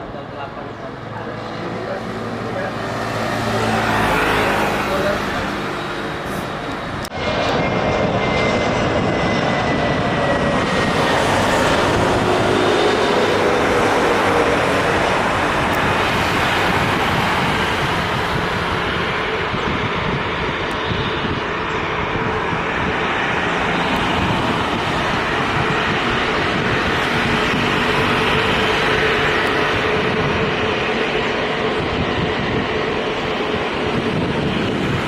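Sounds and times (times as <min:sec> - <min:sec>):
jet engines roaring: 0:00.0 - 0:35.0
wind buffeting microphone: 0:00.0 - 0:35.0.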